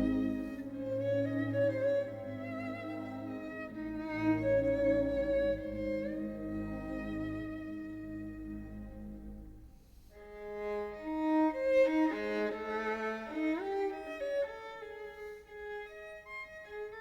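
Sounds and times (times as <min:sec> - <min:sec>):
violin music over loudspeakers: 0:00.0 - 0:17.0.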